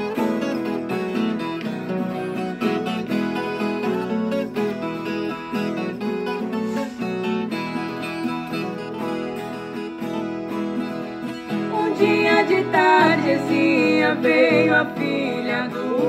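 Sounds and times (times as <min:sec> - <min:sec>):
plucked acoustic string instrument: 0:00.0 - 0:16.0
strummed ten-string guitar: 0:00.0 - 0:16.0.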